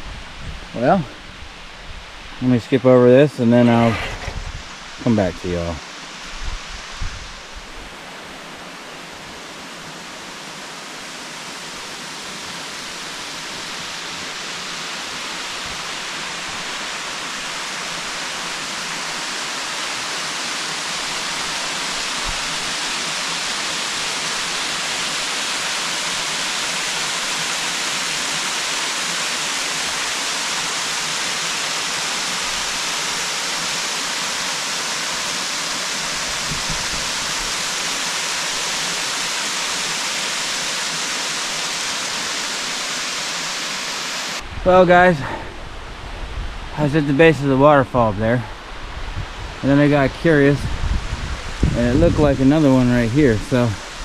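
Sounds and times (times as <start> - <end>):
waterfall roaring: 7.3 - 54.0.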